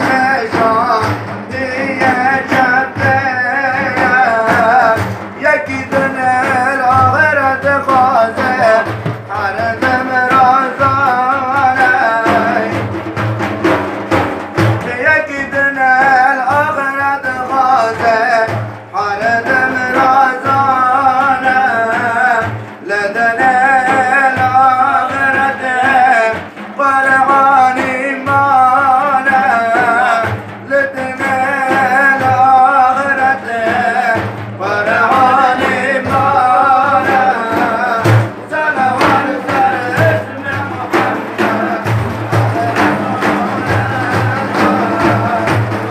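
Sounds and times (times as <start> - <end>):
devotional chant singing: 0.0 - 45.9
low drum beats: 0.0 - 45.9.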